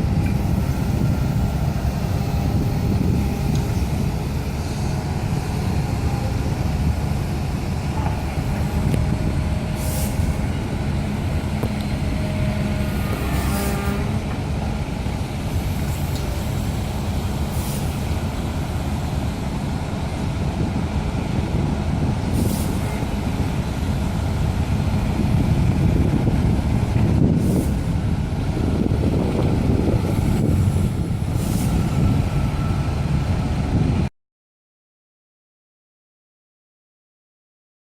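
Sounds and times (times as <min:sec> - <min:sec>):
excavator diesel engine: 0:00.0 - 0:34.1
vibratory pile driver rumbling: 0:00.0 - 0:34.1.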